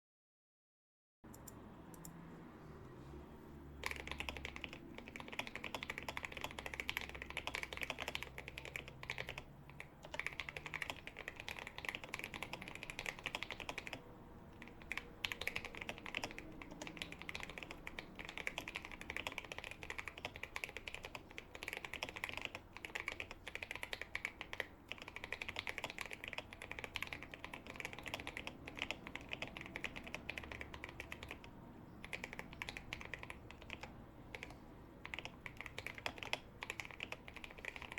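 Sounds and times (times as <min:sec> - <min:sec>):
mechanical keyboard typing: 0:03.8 - 0:37.9.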